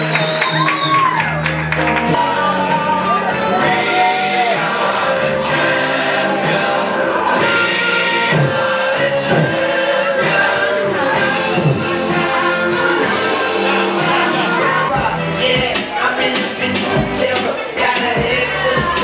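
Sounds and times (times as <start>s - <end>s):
song with singing: 1.9s - 19.0s.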